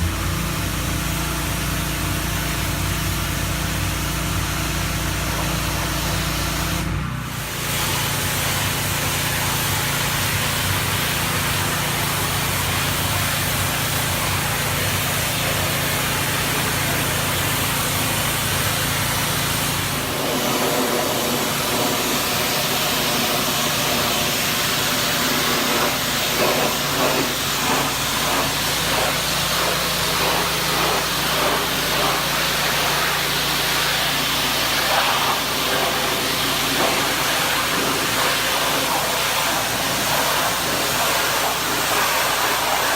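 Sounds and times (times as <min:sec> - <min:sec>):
pressure washer motor hum: 0:00.0 - 0:42.9
water jet spraying hiss: 0:00.0 - 0:42.9.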